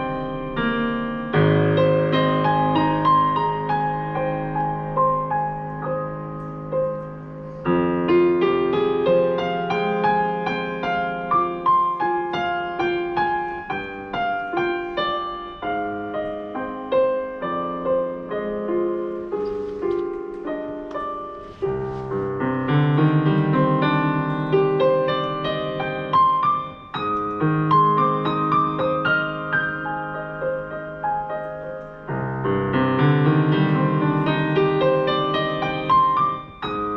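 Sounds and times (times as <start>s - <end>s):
solo piano prelude: 0.0s - 36.9s.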